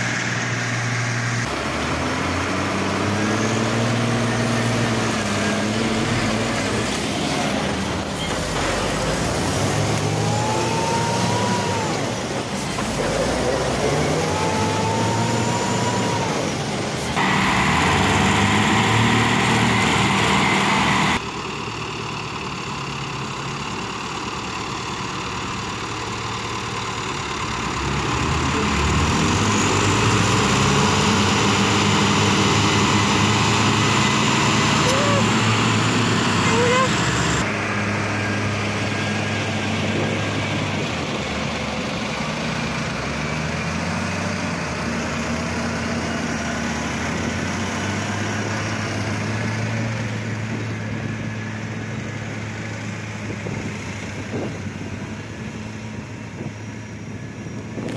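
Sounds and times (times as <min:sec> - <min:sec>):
tractor diesel engines revving: 0:00.0 - 0:57.9.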